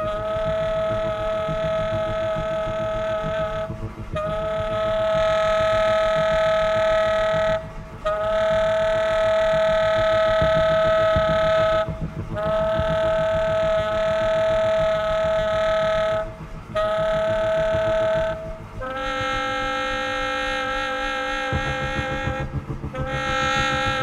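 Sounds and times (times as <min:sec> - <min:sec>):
low bass line: 0:00.0 - 0:24.0
tenor saxophone long notes: 0:00.0 - 0:24.0.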